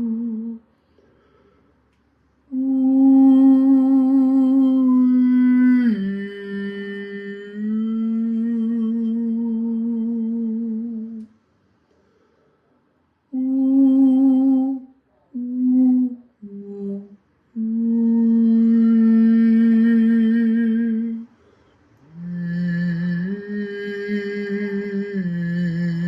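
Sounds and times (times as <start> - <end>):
man humming a slow melody: 0.0 - 0.6, 2.5 - 11.3, 13.3 - 21.3, 22.0 - 26.0.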